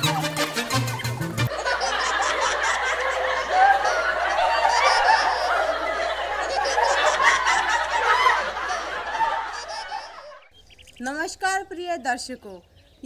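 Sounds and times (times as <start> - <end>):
crowd laughing: 0.0 - 10.5.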